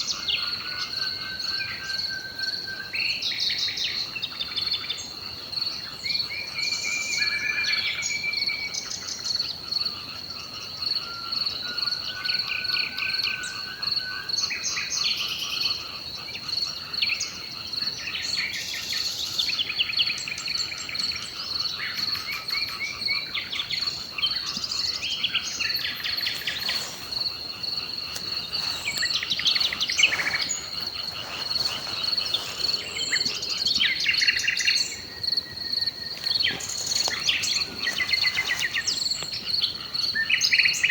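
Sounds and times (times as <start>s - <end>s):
birds singing: 0.0s - 40.9s
crickets trilling: 0.0s - 40.9s.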